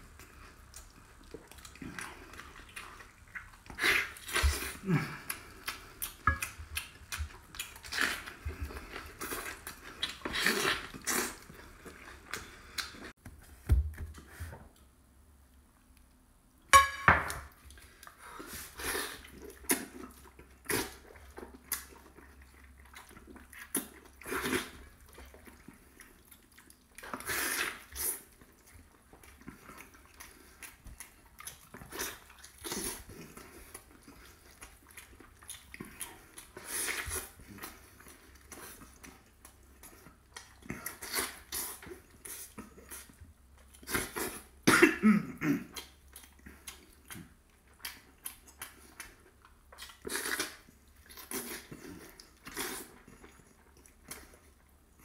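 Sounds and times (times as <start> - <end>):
wet chewing: 0.0 - 13.2, 17.6 - 44.5, 45.7 - 54.8.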